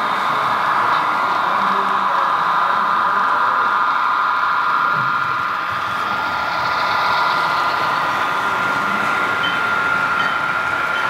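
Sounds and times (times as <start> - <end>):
model train whine and rolling: 0.0 - 11.0.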